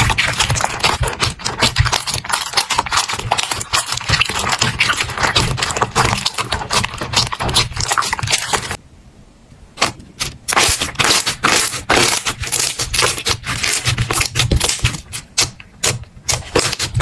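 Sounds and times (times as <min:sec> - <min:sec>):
slime crackling and popping: 0:00.0 - 0:08.8, 0:10.5 - 0:17.0.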